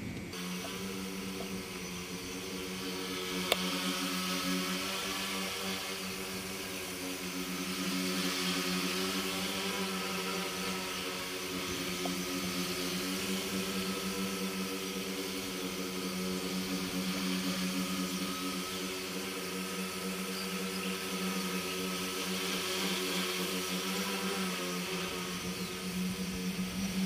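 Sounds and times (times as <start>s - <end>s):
drone propellers humming: 0.0s - 27.0s.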